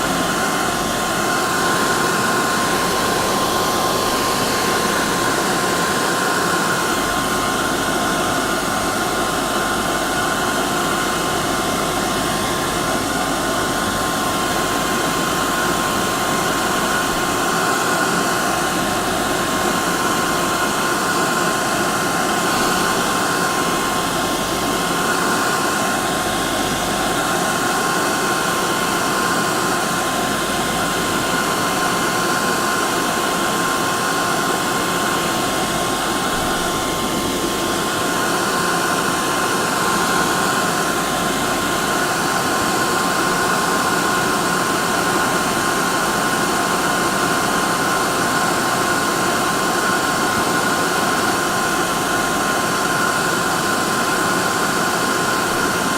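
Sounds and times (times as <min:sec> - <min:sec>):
hair dryer running: 0:00.0 - 0:55.9.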